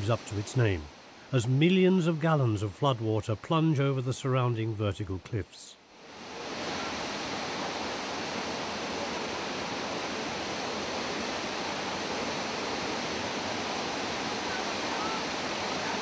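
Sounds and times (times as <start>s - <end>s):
waterfall rushing: 0.0s - 4.7s, 6.0s - 16.0s.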